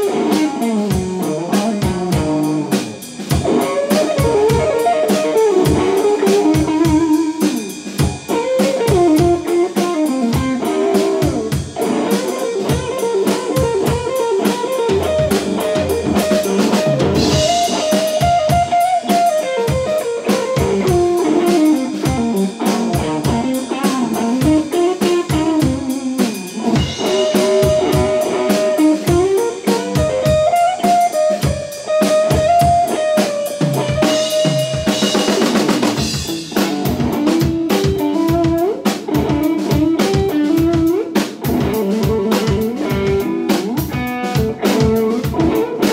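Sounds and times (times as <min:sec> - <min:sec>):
drum kit groove: 0:00.0 - 0:45.9
electric guitar lead melody: 0:00.0 - 0:45.9.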